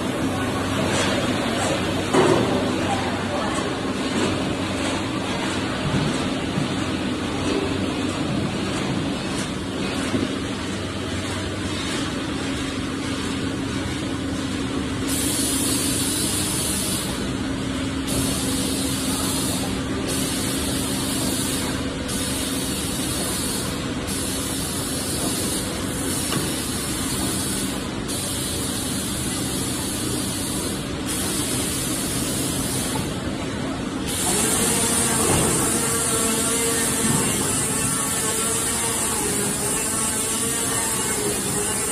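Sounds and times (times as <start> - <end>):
machinery humming: 0.0 - 41.9.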